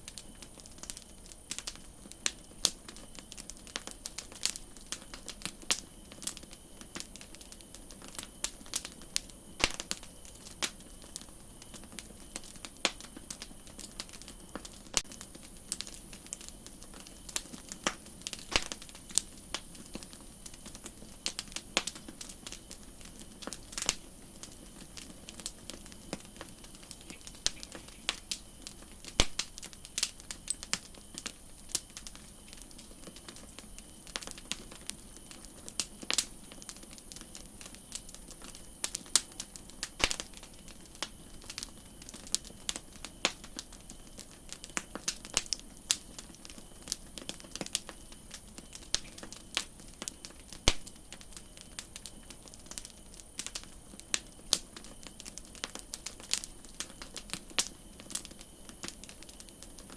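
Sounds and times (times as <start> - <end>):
campfire crackling and popping: 0.0 - 59.9
faint steady hiss: 0.0 - 59.9.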